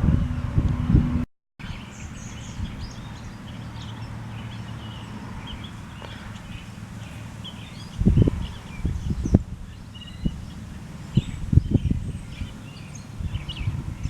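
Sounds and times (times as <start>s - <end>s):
wind rumble on microphone: 0.0s - 14.0s
small birds chirping: 1.6s - 14.0s.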